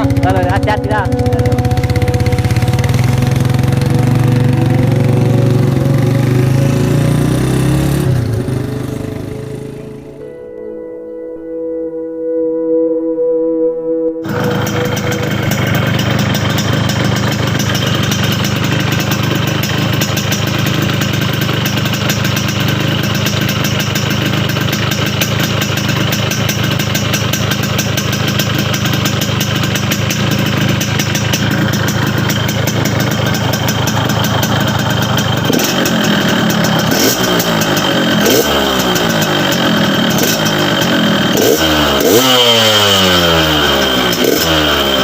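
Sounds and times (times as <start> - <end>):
motorcycle engine growling: 0.0 - 10.3, 14.2 - 45.0.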